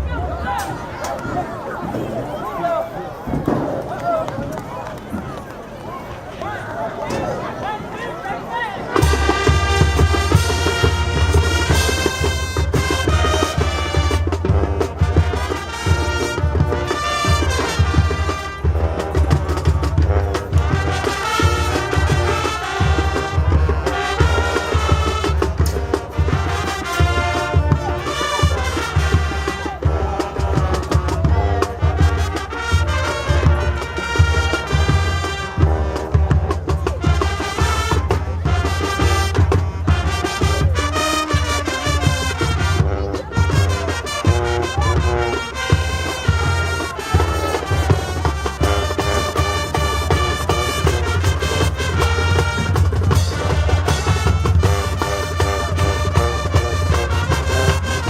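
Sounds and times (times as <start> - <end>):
drumline percussion: 0.0 - 5.4, 8.9 - 58.0
marching band brass melody: 7.4 - 58.0.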